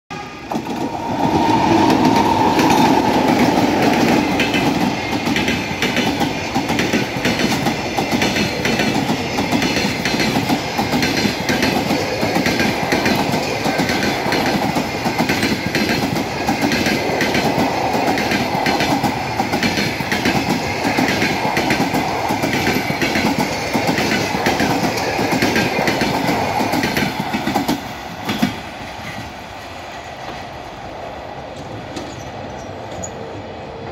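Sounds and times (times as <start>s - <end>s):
electric locomotives passing: 0.1s - 33.9s
train coaches clattering over rail joints: 2.0s - 29.3s.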